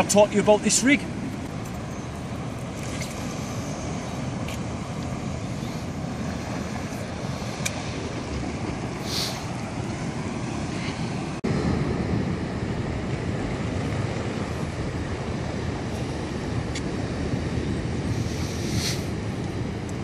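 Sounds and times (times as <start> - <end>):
sea and harbour water: 0.0 - 20.0.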